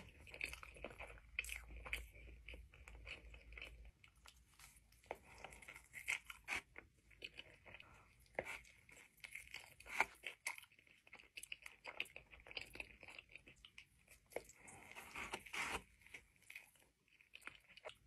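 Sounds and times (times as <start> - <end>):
chewing and mouth smacks: 0.0 - 18.0.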